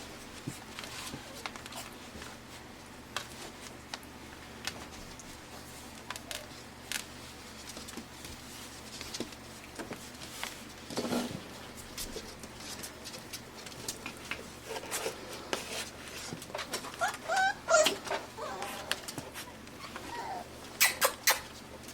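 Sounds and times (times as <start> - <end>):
puppies scuffling and playing: 0.0 - 21.9.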